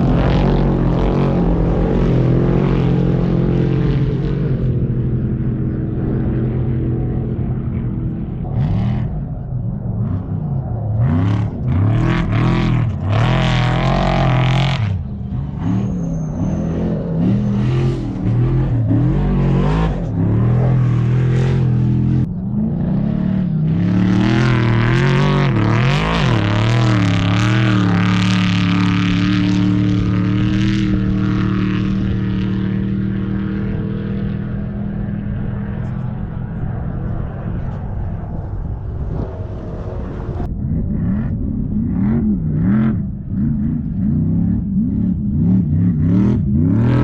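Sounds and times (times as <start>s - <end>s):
race vehicle engine revving: 0.0s - 47.0s.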